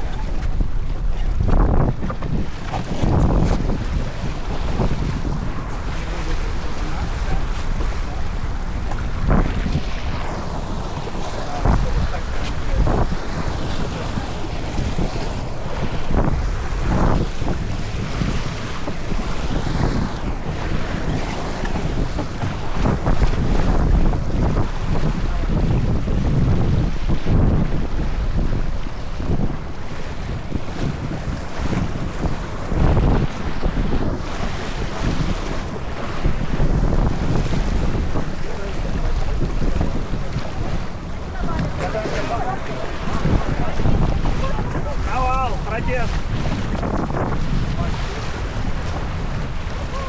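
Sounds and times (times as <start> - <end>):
water rushing against hull: 0.0 - 50.0
wind buffeting microphone: 0.0 - 50.0.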